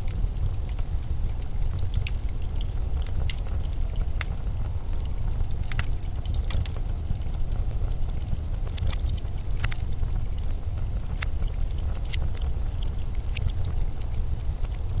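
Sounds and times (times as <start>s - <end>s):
sharp crackles and ticks: 0.0s - 15.0s.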